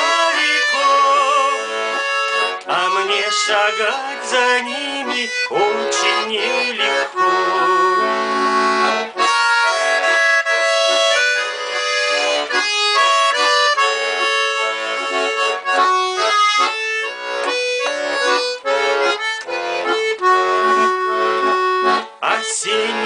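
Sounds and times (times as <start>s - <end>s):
button accordion melody: 0.0s - 23.0s.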